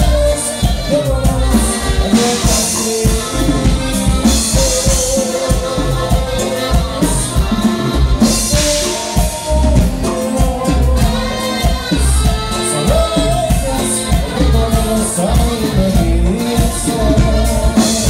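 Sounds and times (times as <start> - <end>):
band playing dance music: 0.0 - 18.0
drums keeping a beat: 0.0 - 18.0.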